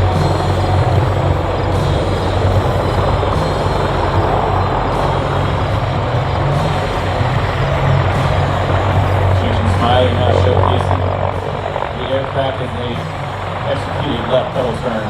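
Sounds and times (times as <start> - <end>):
helicopter flying: 0.0 - 15.0.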